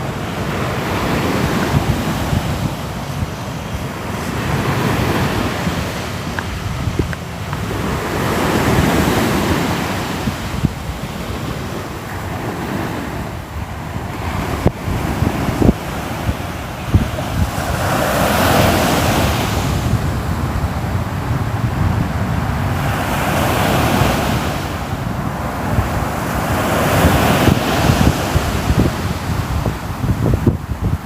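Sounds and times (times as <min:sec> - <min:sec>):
waves breaking: 0:00.0 - 0:31.0
wind rumbling on microphone: 0:00.0 - 0:31.0.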